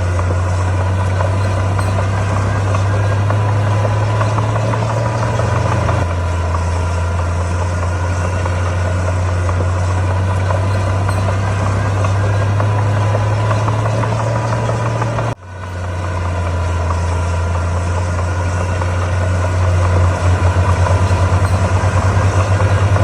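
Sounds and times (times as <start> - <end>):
heavy diesel engine running: 0.0 - 23.0
light rattle: 0.1 - 6.1, 7.4 - 23.0.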